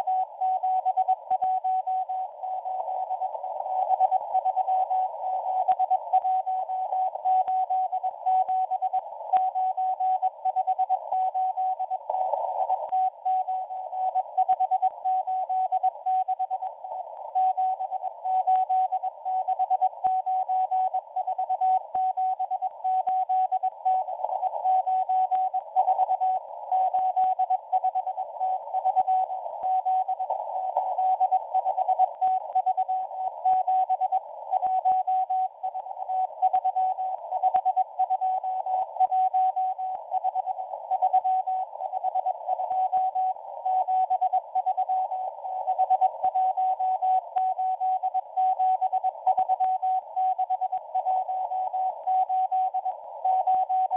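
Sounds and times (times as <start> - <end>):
static crackles: 0.0 - 53.9.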